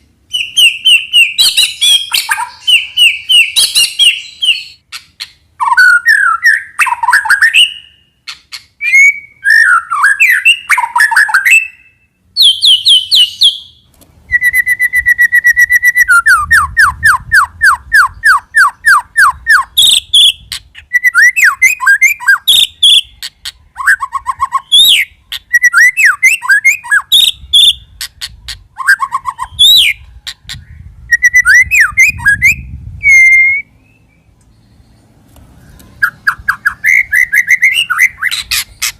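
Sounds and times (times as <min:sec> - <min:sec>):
bird singing whistled phrases: 0:00.3 - 0:28.2, 0:28.8 - 0:34.3, 0:36.0 - 0:38.9.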